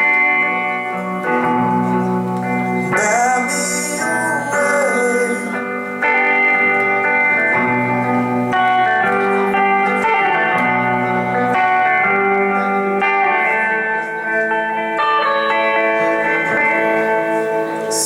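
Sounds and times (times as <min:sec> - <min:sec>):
acoustic guitars playing chords: 0:00.0 - 0:18.0.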